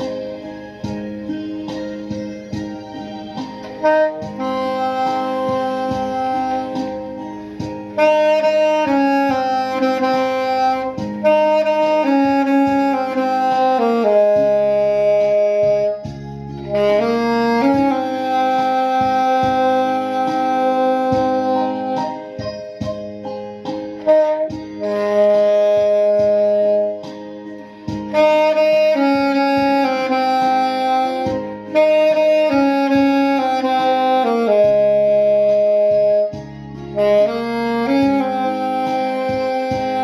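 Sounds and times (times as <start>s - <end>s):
alto saxophone ballad: 0.0s - 40.0s.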